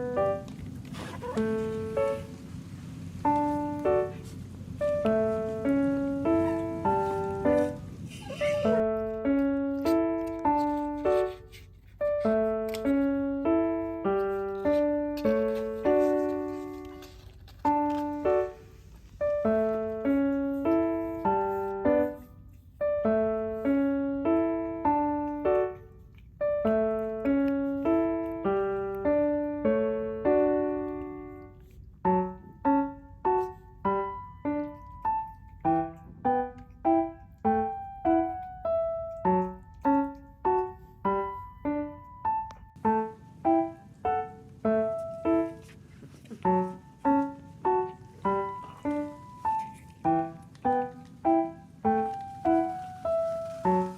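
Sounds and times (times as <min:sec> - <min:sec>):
light piano tune: 0:00.0 - 0:53.9.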